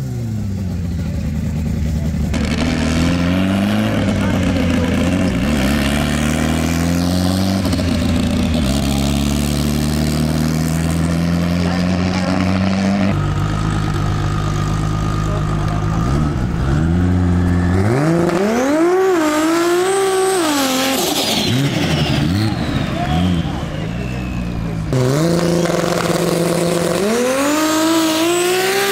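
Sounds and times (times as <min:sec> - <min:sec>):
car engines running: 0:00.0 - 0:28.9
car engine revving hard: 0:02.3 - 0:28.9.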